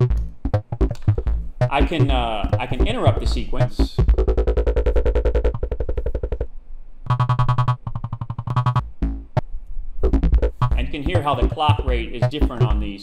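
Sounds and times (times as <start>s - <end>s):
synthesizer fast repeated notes: 0.0s - 13.0s.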